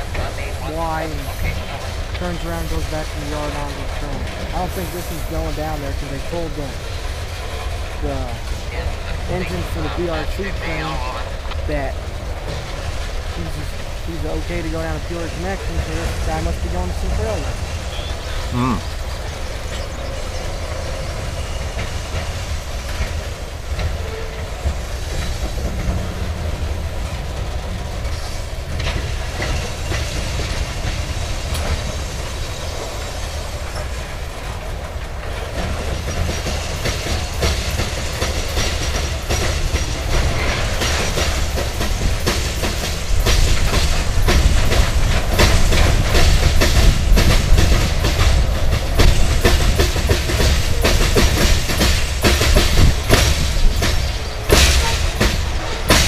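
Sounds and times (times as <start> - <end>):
freight train rumble: 0.0 - 56.0
train wheels clicking over rail joints: 0.0 - 56.0.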